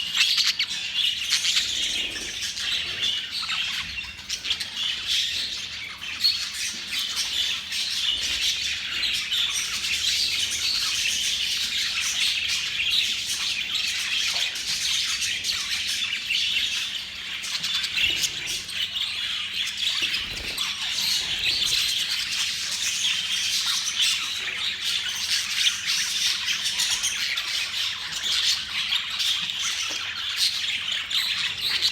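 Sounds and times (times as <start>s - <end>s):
budgerigars chattering and squawking: 0.0s - 31.9s.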